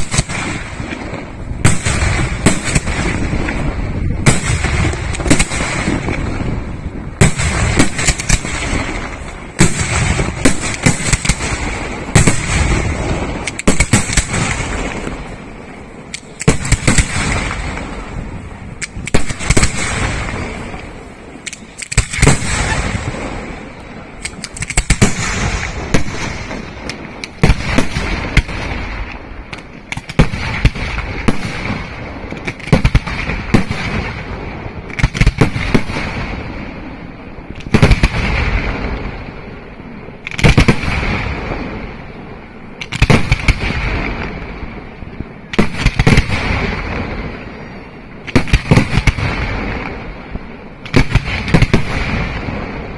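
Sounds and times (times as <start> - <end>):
firework bangs: 0.0 - 52.9.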